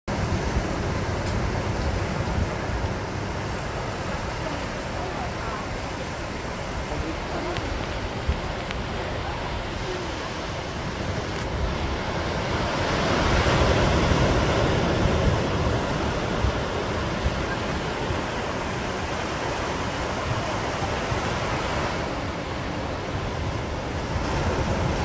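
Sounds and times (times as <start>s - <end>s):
ocean surf breaking on beach: 0.1s - 25.0s.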